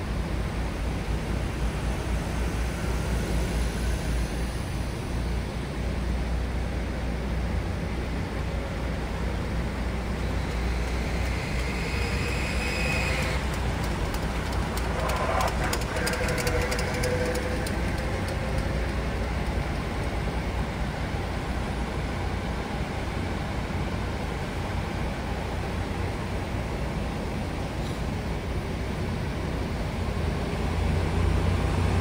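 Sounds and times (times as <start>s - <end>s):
minibus driving past: 0.0s - 26.7s
diesel engines idling: 0.0s - 32.0s.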